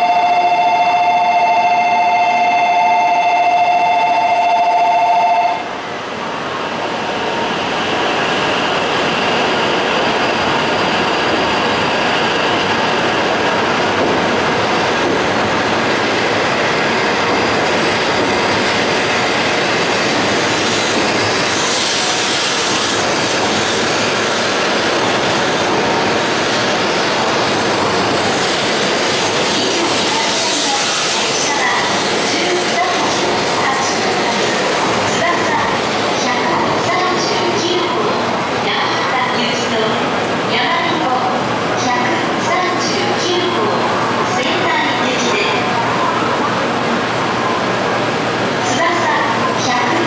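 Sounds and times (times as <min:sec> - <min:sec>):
train rushing: 0:00.0 - 0:50.0.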